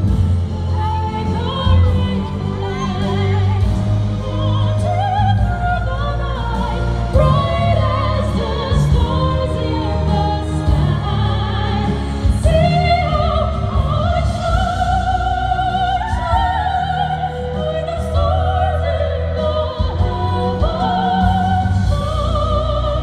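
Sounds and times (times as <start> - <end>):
instrumental accompaniment with bass: 0.0 - 23.0
women singing operatically in harmony: 0.0 - 23.0.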